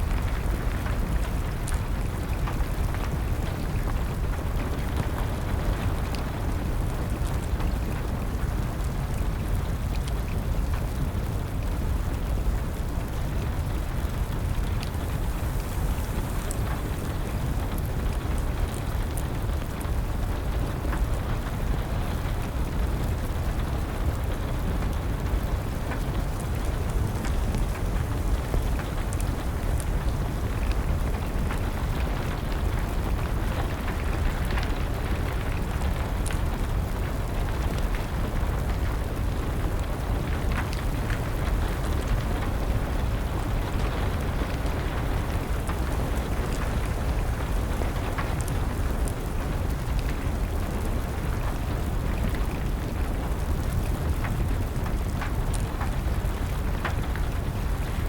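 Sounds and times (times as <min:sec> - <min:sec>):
steady rain: 0:00.0 - 0:58.0
wood fire crackling and popping: 0:00.0 - 0:58.0.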